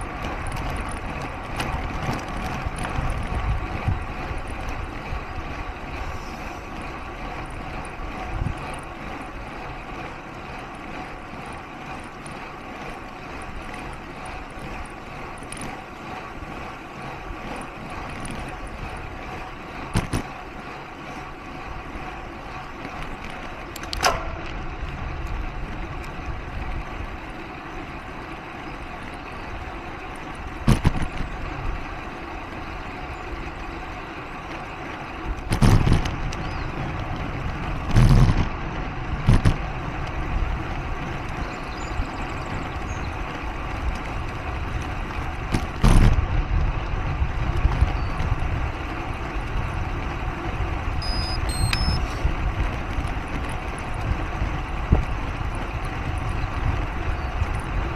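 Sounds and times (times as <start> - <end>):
bicycle tyres and drivetrain whirring: 0.0 - 57.9
wind rumbling on microphone: 0.0 - 57.9.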